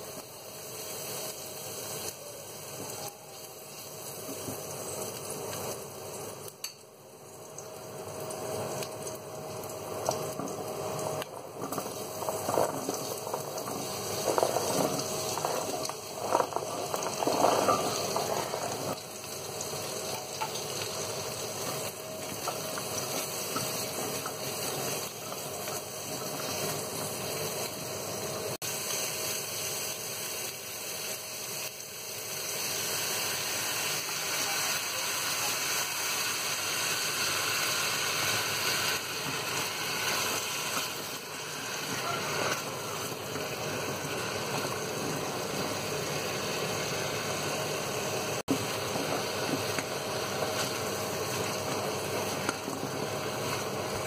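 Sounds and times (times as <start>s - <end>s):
squash sizzling in hot oil: 0.0s - 54.0s.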